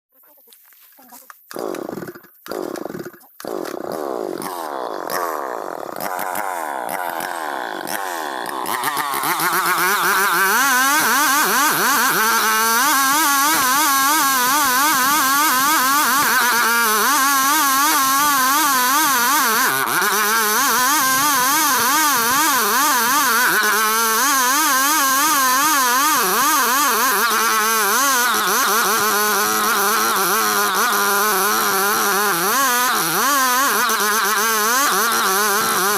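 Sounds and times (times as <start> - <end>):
petrol saw engine revving: 1.5 - 35.9.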